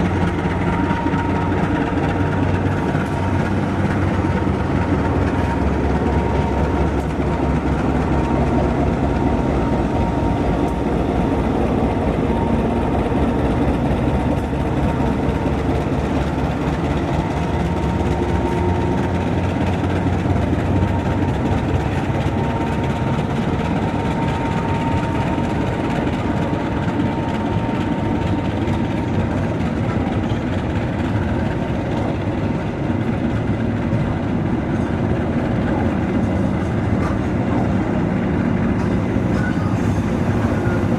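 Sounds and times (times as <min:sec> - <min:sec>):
passenger train rumbling: 0:00.0 - 0:40.9.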